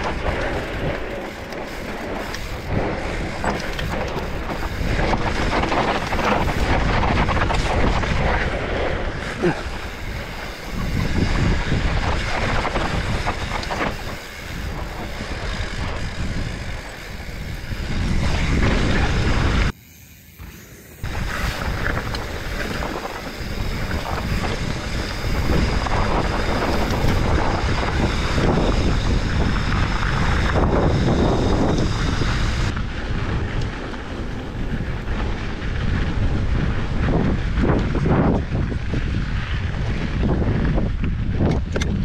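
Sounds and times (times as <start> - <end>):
wind buffeting microphone: 0.0 - 19.8, 21.0 - 42.0
bike tyres rumbling over dirt: 0.0 - 42.0.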